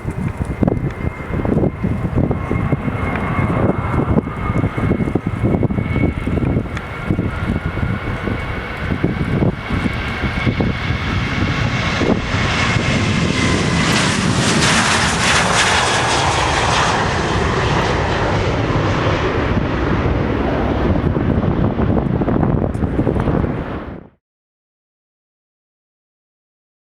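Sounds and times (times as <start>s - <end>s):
jet aircraft engines passing: 0.0s - 24.2s
wind buffeting microphone: 0.0s - 24.2s.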